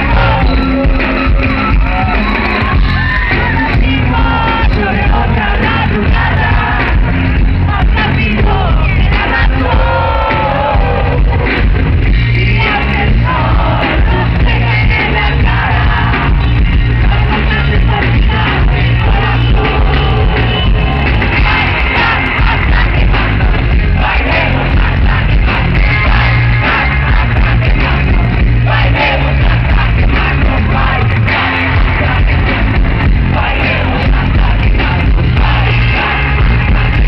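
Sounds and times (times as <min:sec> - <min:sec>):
heavy pounding bass: 0:00.0 - 0:37.0
live rock band playing: 0:00.0 - 0:37.0
man singing: 0:00.0 - 0:37.0.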